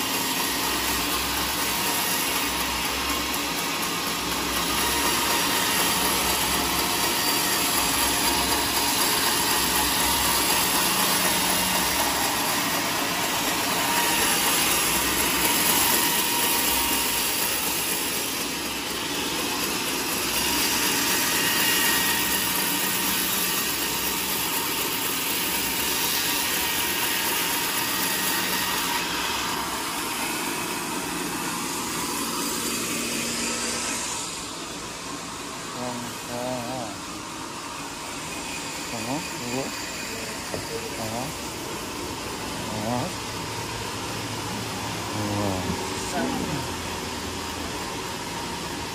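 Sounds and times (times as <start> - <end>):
band saw cutting log: 0.0 - 48.9.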